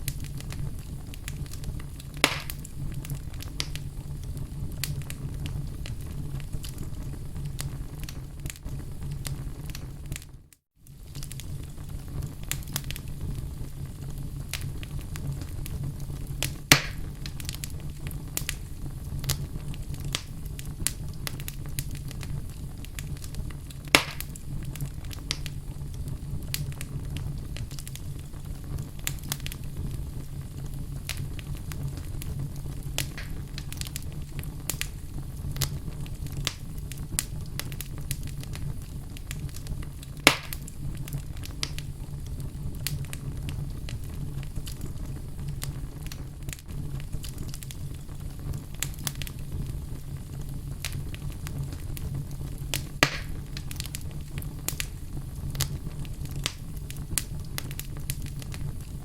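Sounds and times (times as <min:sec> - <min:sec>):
loud fire pops: 0:00.0 - 0:59.0
wood fire crackling: 0:00.0 - 0:59.0.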